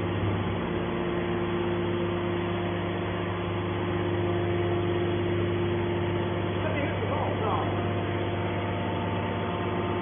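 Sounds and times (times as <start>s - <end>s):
baler machine hum: 0.0s - 10.0s.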